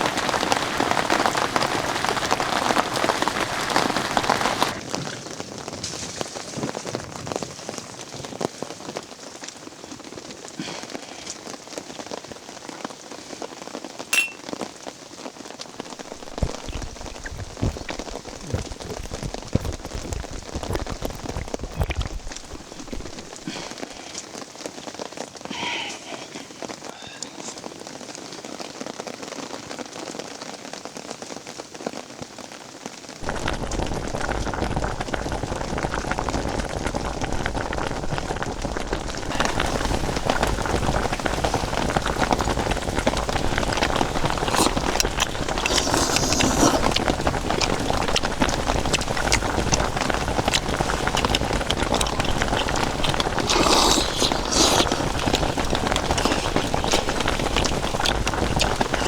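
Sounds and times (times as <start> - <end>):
steady rain falling: 0.0 - 14.1, 14.8 - 59.0.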